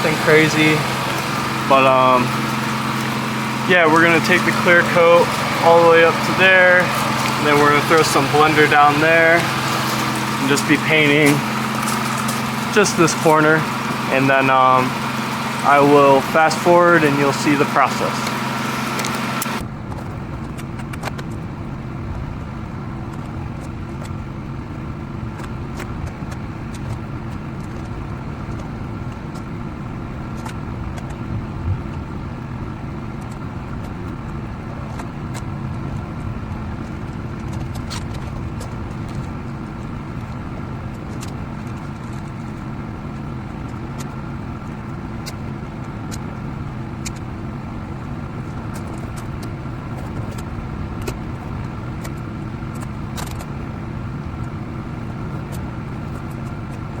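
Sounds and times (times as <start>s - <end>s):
mechanical drone: 0.0s - 57.0s.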